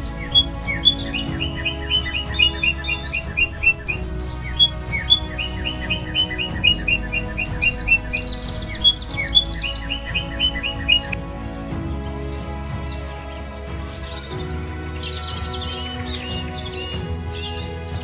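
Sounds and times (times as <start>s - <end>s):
bird chirping: 0.0s - 18.0s
soft background music: 0.0s - 18.0s.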